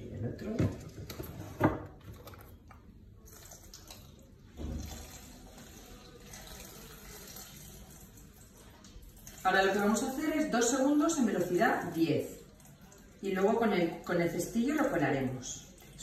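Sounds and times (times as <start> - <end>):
milk pouring into metal bowl: 2.3 - 16.0.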